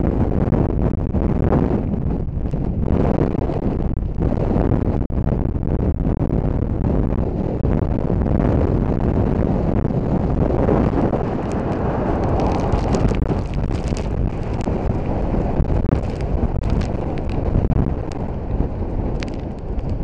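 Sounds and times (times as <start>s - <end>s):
wind buffeting microphone: 0.0s - 20.0s
crackles: 0.1s - 20.0s.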